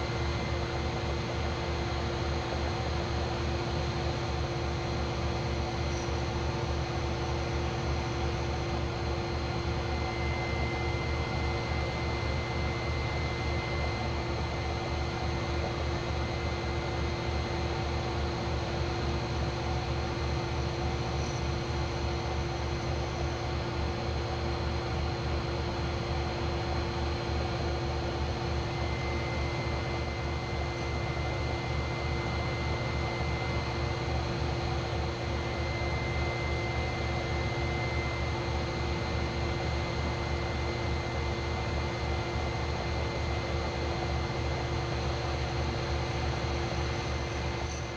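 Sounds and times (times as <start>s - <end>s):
machine humming and whining: 0.0s - 47.9s.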